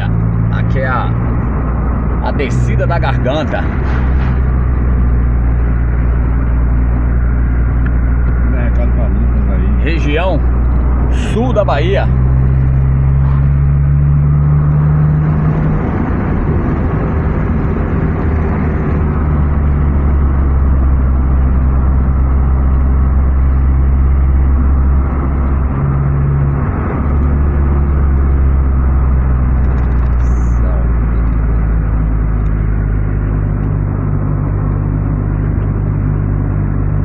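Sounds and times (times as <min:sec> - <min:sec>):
car engine and tyre drone: 0:00.0 - 0:37.0.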